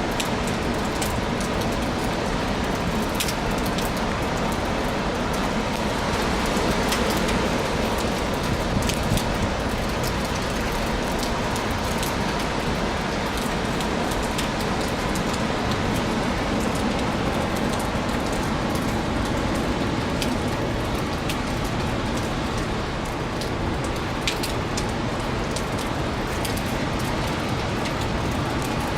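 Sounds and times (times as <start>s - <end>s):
heavy surf: 0.0s - 28.9s
strong wind: 0.0s - 28.9s.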